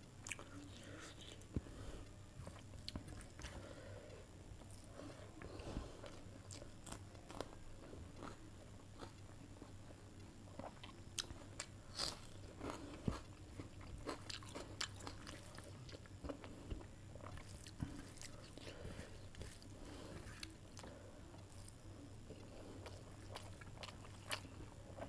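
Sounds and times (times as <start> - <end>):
person chewing food: 0.2 - 25.0.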